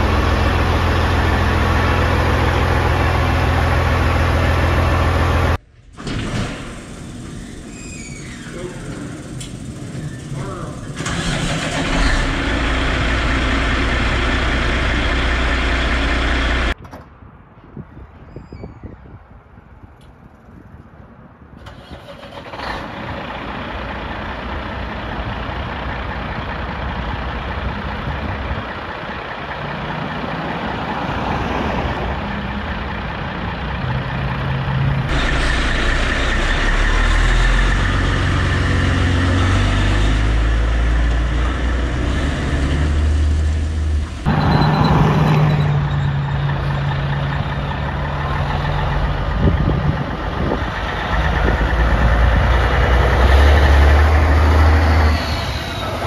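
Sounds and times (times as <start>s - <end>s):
diesel truck engine idling: 0.0s - 5.7s, 6.7s - 16.8s, 22.9s - 56.0s.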